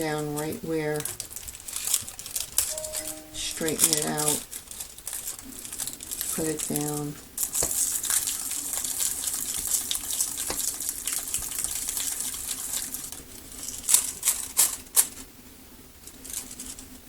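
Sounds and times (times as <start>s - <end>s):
foil crinkling and rustling: 0.0s - 2.7s, 3.8s - 15.3s, 16.1s - 17.0s.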